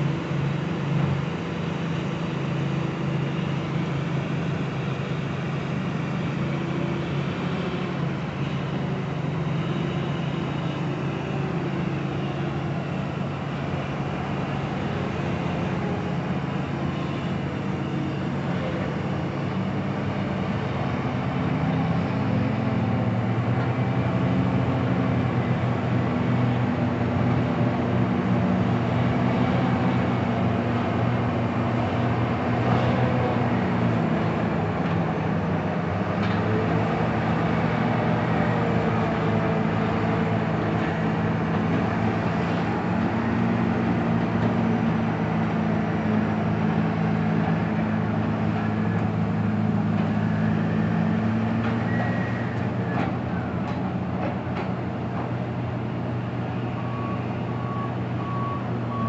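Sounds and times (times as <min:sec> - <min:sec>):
haul truck diesel engine driving: 0:00.0 - 0:59.0.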